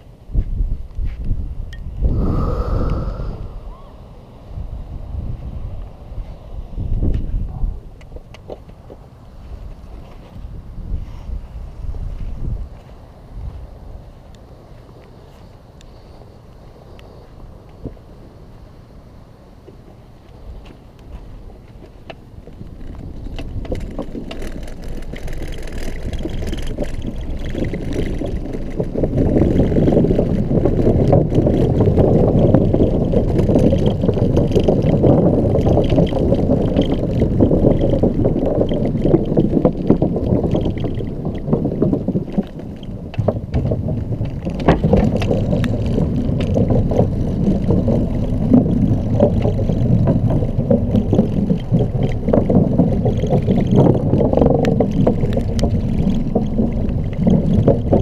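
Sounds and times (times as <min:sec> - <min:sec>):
scooter ride rumble: 0:00.0 - 0:58.0
wind on microphone: 0:00.0 - 0:58.0.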